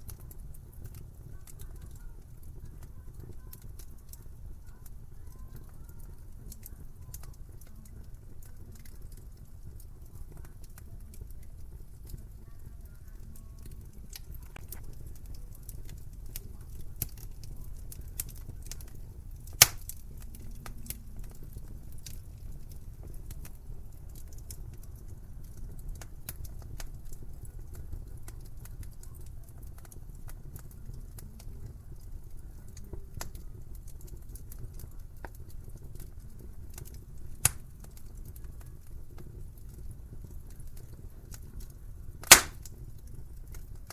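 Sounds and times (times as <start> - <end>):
fire low rumble: 0.0 - 43.9
fire pops and snaps: 0.0 - 43.9.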